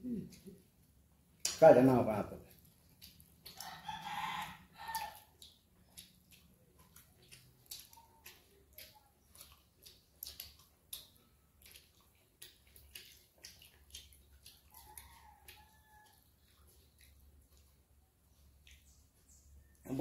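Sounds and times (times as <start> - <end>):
mouths chewing: 0.0 - 20.0
fingers squelching through rice: 2.4 - 20.0.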